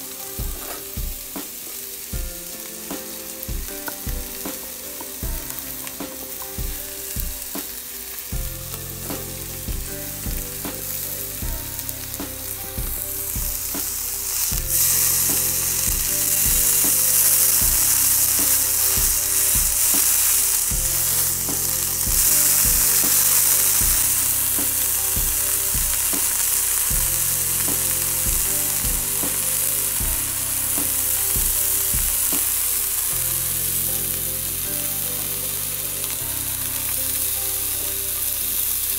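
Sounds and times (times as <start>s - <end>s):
steak sizzling on barbecue: 0.0s - 38.9s.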